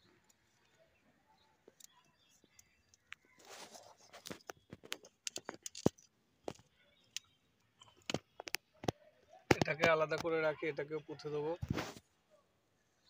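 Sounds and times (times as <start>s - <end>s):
soil and roots crackling: 0.0s - 12.1s.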